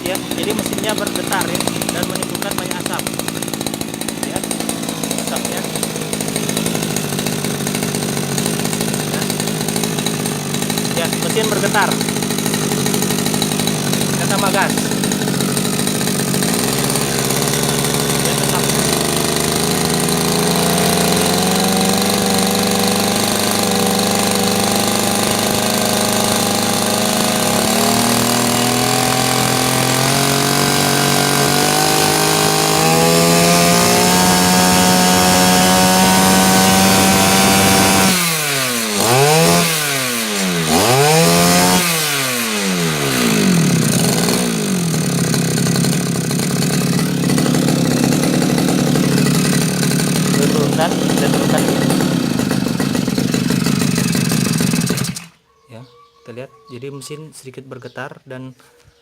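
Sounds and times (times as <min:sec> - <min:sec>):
brush cutter engine revving: 0:00.0 - 0:55.4.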